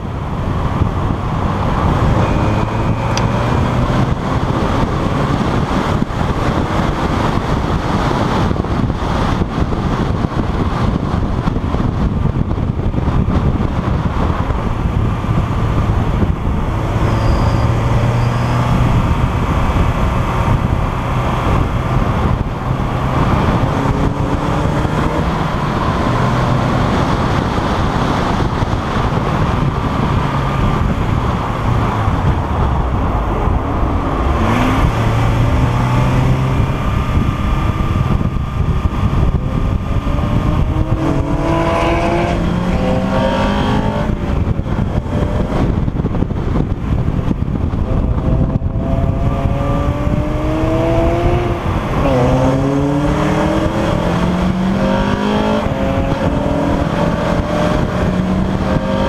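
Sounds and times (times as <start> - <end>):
race car engine accelerating: 0.0 - 59.0
wind and road noise: 0.0 - 59.0.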